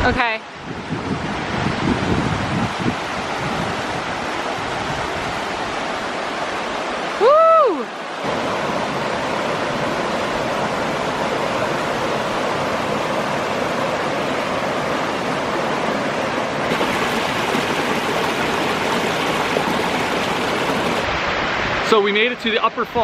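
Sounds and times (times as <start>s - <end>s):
waterfall rushing: 2.4s - 22.6s.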